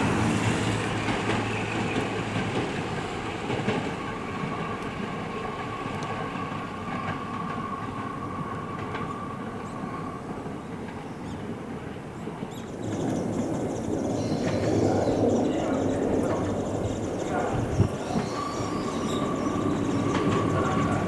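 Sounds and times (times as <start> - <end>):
electric train whine: 0.0 - 21.0
train wheels rumbling on rails: 0.0 - 21.0.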